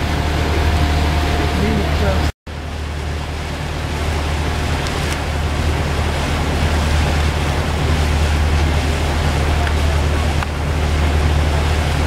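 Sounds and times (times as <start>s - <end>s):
rushing water: 0.0s - 12.0s
wind rumbling on microphone: 0.0s - 12.0s.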